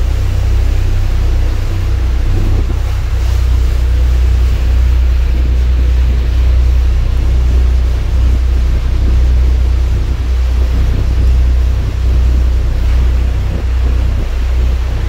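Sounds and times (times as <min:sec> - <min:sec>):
boat engine drone: 0:00.0 - 0:15.0
water rushing past hull: 0:00.0 - 0:15.0
wind buffeting microphone: 0:00.0 - 0:15.0.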